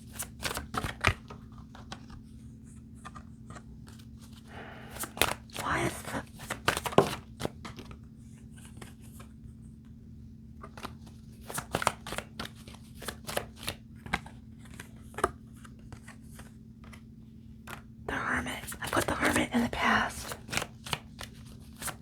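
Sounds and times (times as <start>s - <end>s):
cards being shuffled: 0.0s - 2.2s, 3.0s - 9.3s, 10.6s - 17.1s, 18.5s - 22.0s.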